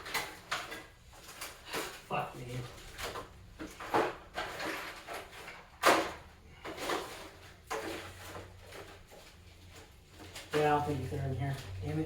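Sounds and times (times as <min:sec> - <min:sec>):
objects clattering in a drawer: 0:00.0 - 0:10.8.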